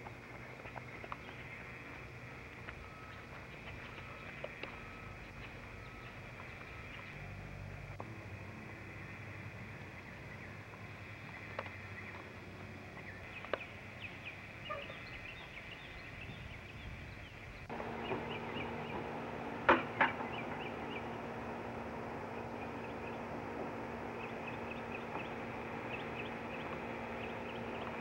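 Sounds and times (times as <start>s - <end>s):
steady hum: 0.0s - 28.0s
bird chirping: 0.4s - 7.2s, 9.8s - 28.0s.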